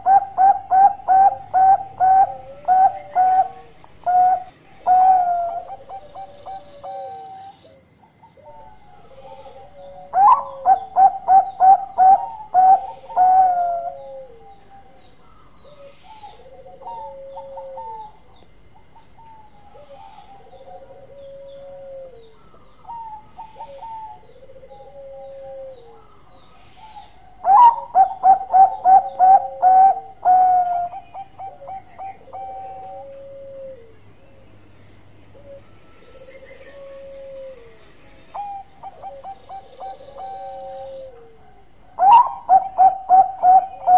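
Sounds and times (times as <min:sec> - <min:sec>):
dove cooing: 0:00.0 - 0:34.1, 0:35.3 - 0:43.9.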